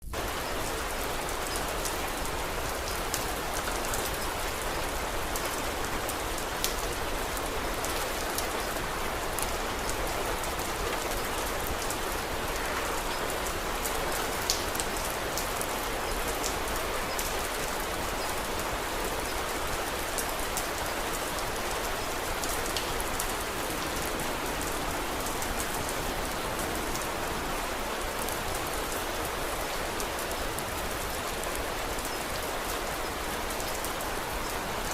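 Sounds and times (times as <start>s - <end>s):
rain hissing: 0.0s - 34.9s
raindrops ticking: 0.1s - 29.0s.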